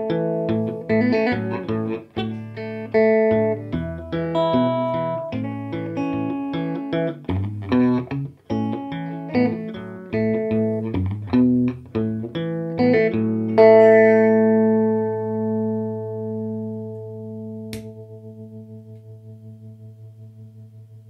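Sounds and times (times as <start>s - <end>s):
clean electric guitar: 0.0s - 21.0s.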